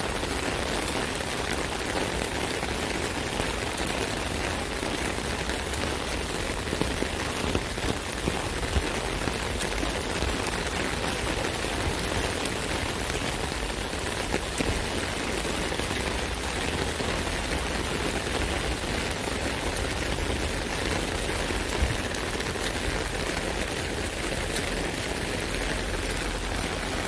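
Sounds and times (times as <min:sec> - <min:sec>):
rain on an umbrella: 0:00.0 - 0:27.0.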